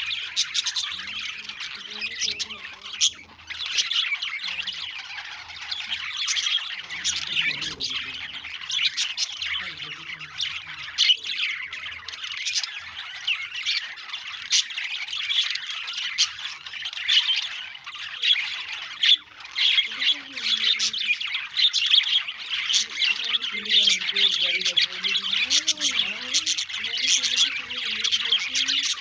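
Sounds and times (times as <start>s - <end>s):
budgerigars chirping and chattering: 0.0s - 29.0s.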